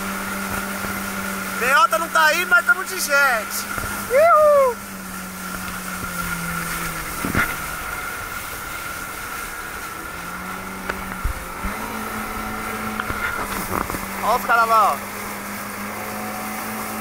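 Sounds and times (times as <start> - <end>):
jet ski engine running: 0.0 - 17.0
spray and rushing water: 0.0 - 17.0.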